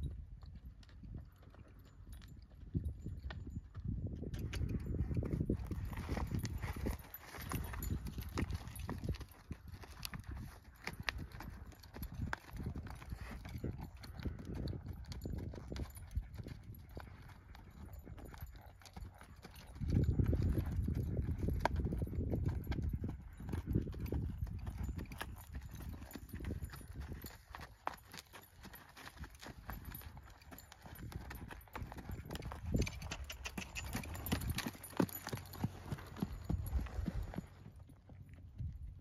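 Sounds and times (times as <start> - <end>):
horse hooves on sand: 0.0 - 39.0.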